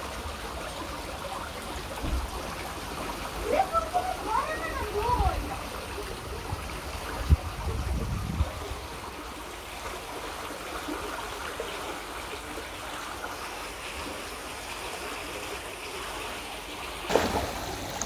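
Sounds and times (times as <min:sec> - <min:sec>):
small waterfall trickling: 0:00.0 - 0:18.0.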